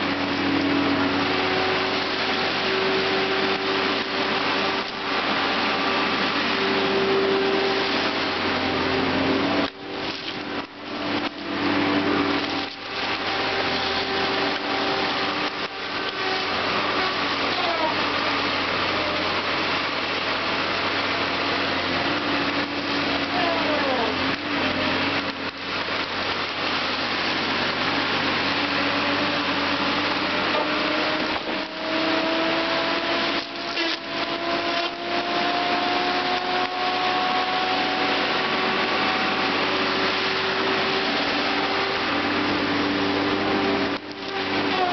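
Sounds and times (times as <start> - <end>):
diesel engine and hydraulics: 0.0 - 44.9
rising whining tones: 0.0 - 44.9.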